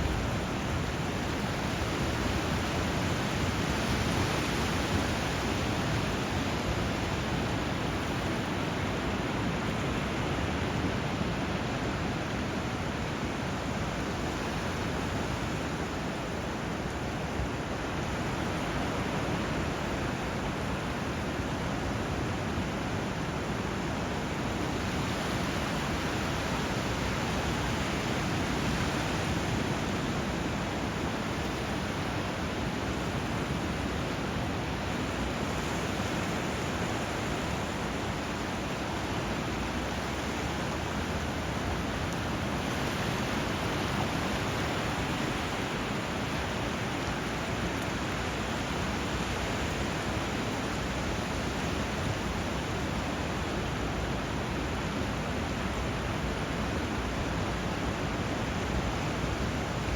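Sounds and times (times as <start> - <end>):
flowing water and surf: 0.0 - 59.9.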